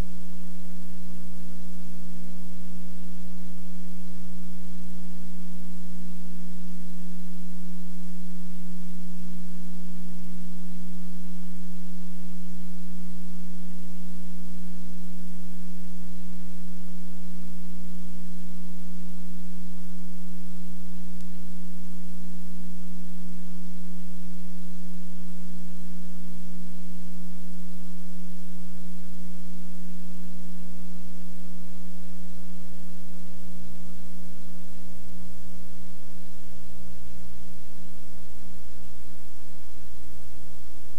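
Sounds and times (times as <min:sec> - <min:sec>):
low electrical mains hum: 0:00.0 - 0:40.9.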